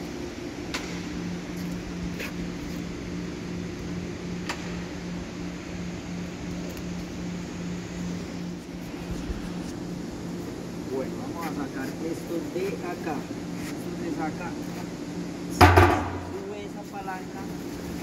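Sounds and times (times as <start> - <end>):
extractor fan humming: 0.0 - 18.0.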